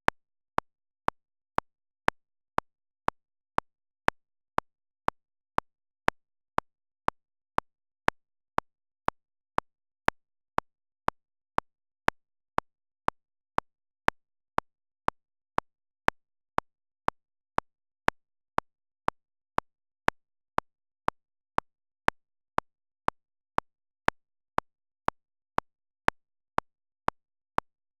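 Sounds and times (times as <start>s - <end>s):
steady ticking clicks: 0.0s - 28.0s.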